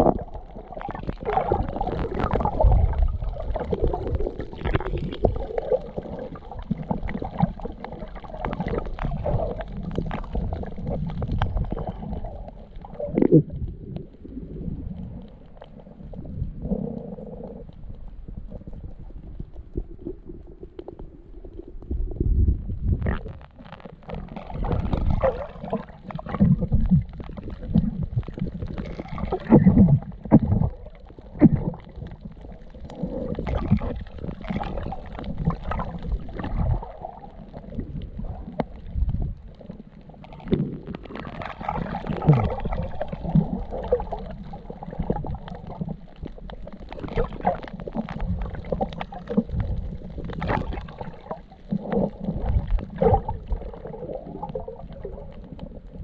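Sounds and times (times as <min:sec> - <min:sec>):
muffled underwater swishing: 0:00.0 - 0:56.0.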